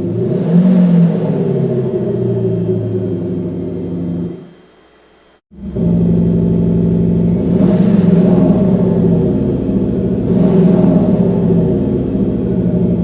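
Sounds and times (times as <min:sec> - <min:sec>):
synthesized engine drone: 0:00.0 - 0:13.0.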